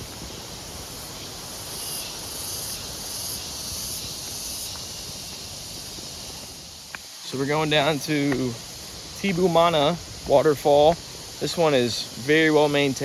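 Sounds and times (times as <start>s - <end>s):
insects buzzing high-pitched: 0.0s - 13.0s.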